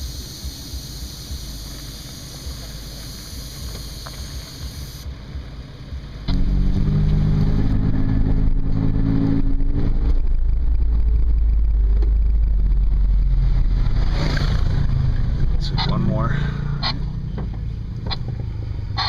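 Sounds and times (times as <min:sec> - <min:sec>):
engine rumble from inside cabin: 0:00.0 - 0:19.0.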